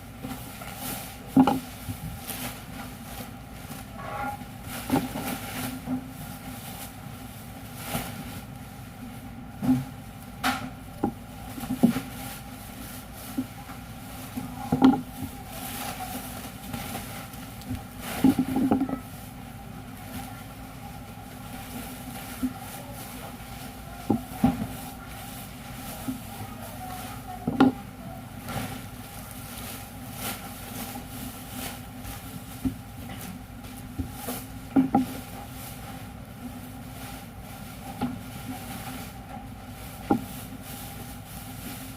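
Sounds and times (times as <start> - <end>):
machinery humming: 0.0 - 41.9.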